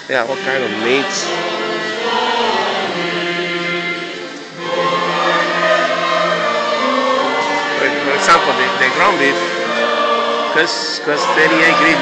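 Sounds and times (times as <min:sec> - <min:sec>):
choir singing a carol: 0:00.0 - 0:12.0.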